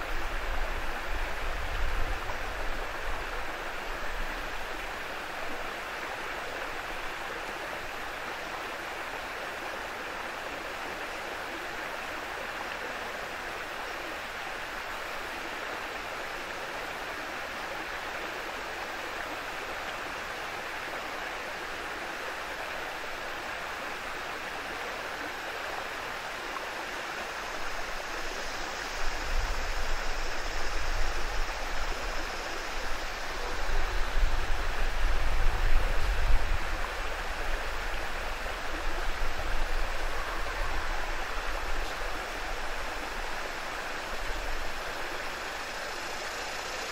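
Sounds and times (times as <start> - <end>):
small waterfall rushing: 0.0 - 46.9.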